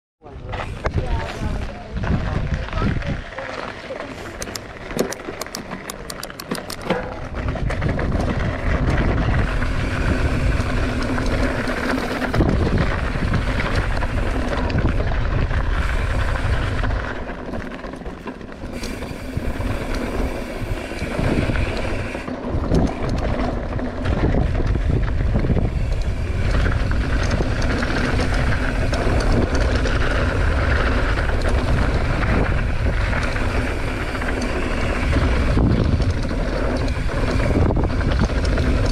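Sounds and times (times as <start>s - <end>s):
bike tyre rumble: 0.2s - 38.9s
rushing air: 6.2s - 17.4s, 18.6s - 38.9s.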